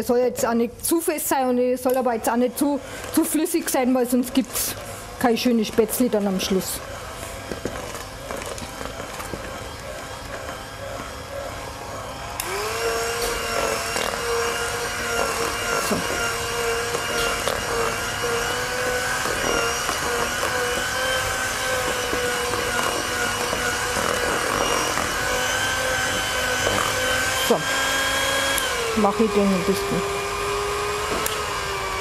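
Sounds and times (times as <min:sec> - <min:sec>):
electric hand mixer whine: 0:01.0 - 0:32.0.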